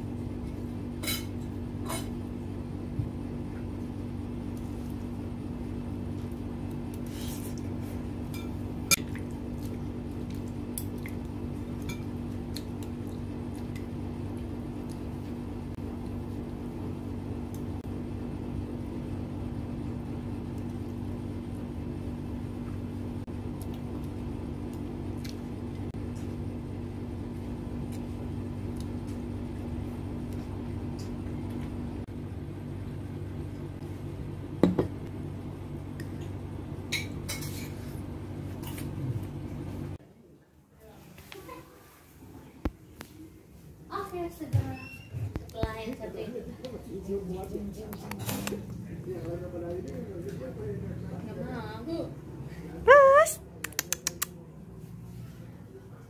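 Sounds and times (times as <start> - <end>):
steady low hum: 0.0 - 40.4, 45.3 - 56.0.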